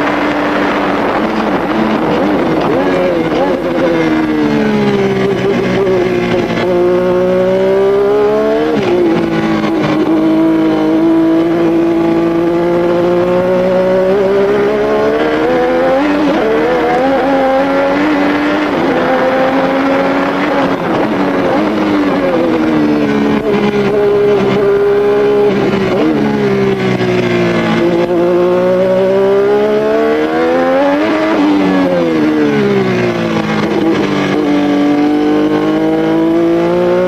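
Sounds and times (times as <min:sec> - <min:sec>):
racing car engine revving: 0:00.0 - 0:37.0.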